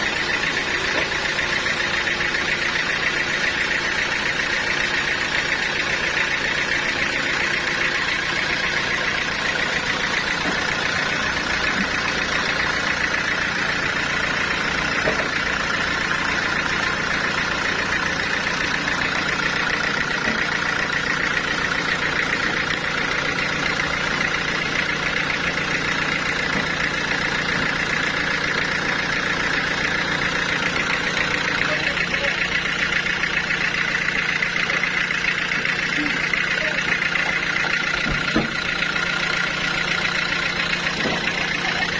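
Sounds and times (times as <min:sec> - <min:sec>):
sawmill saw droning: 0:00.0 - 0:41.9.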